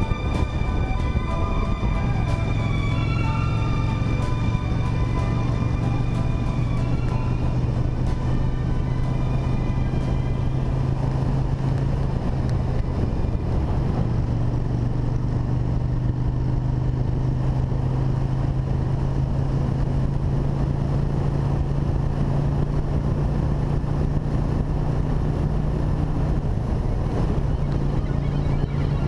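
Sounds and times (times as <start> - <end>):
motorcycle engine running: 0.0 - 29.0
wind on microphone: 0.0 - 29.0.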